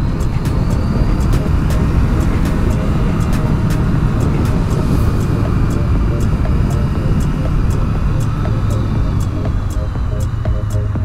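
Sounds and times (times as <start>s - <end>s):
motorcycle engine cruising: 0.0s - 11.0s
rumble of riding noise: 0.0s - 11.0s.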